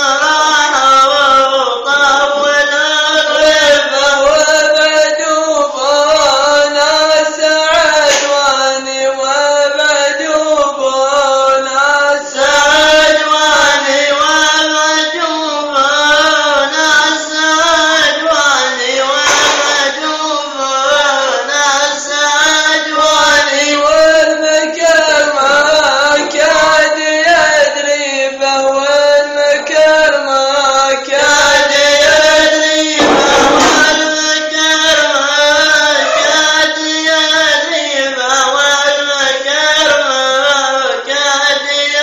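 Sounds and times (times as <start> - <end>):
man chanting long held notes: 0.0 - 42.0.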